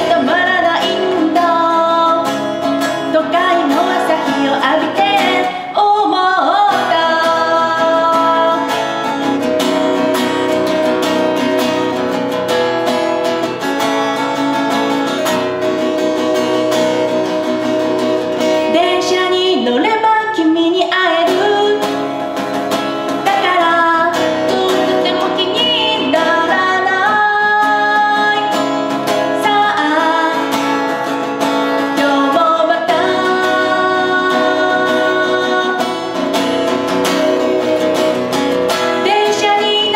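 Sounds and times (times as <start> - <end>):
woman singing: 0.0 - 12.3, 18.4 - 39.9
strummed acoustic guitar: 0.0 - 39.9.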